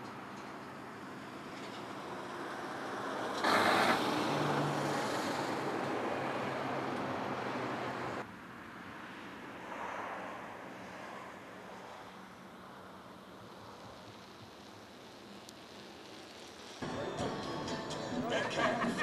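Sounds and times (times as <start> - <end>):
passing vehicle: 0.2 - 19.0.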